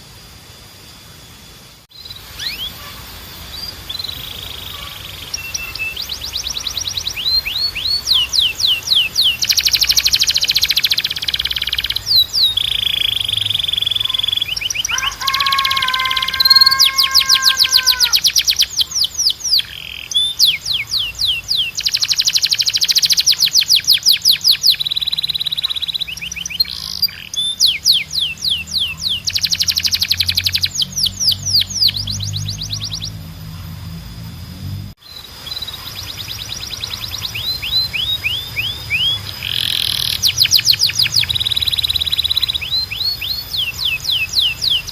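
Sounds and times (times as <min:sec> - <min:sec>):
canary singing: 0:01.9 - 0:34.0, 0:35.0 - 0:44.9.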